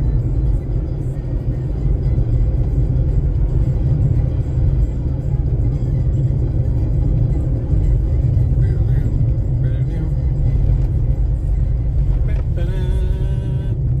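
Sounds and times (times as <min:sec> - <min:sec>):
car cabin road rumble: 0:00.0 - 0:14.0
music playing: 0:00.0 - 0:14.0.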